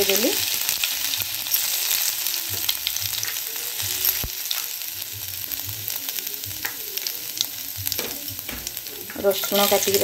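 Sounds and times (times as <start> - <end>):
seeds sizzling in hot oil: 0.0 - 10.0.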